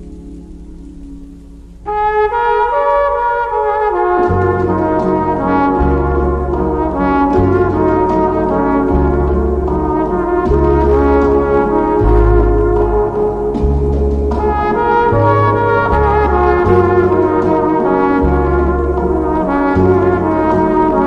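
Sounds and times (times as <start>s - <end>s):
bass line: 0.0s - 21.0s
sustained chords: 0.0s - 21.0s.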